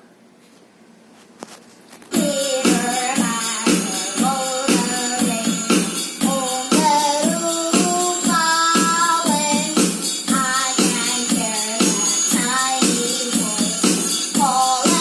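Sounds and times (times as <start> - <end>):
jingling percussion: 2.1 - 15.0
keyboard accompaniment beat: 2.1 - 15.0.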